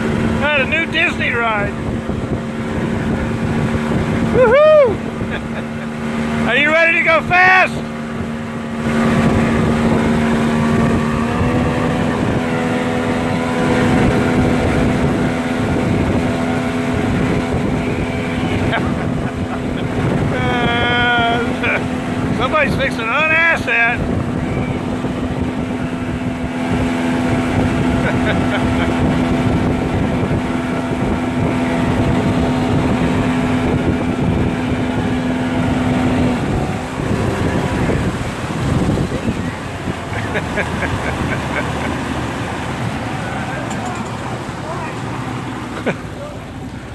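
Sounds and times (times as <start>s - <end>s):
motorboat engine droning: 0.0s - 46.9s
water rushing in wake: 0.0s - 46.9s
wind buffeting microphone: 0.0s - 46.9s.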